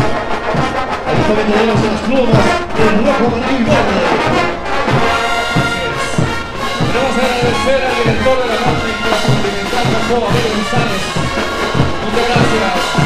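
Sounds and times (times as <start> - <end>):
bass drum and snare drums: 0.0 - 13.0
brass melody: 0.0 - 13.0.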